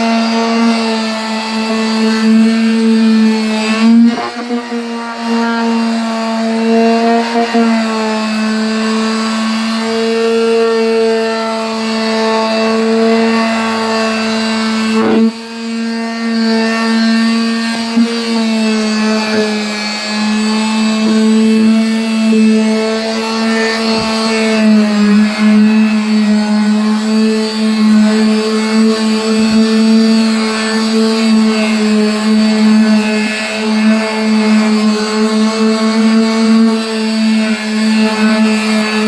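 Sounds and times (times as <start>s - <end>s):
electric polisher whining: 0.0s - 39.0s.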